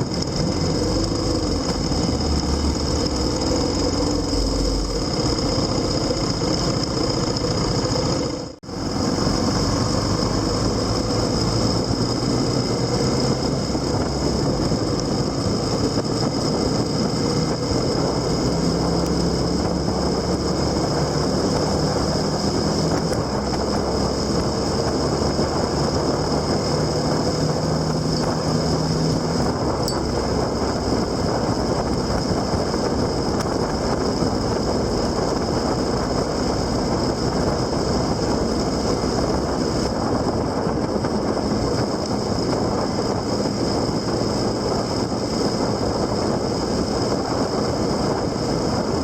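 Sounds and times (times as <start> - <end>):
deeper engine tone: 0.0 - 49.0
vehicle engine hum: 0.0 - 49.0
wind and road noise: 0.0 - 49.0.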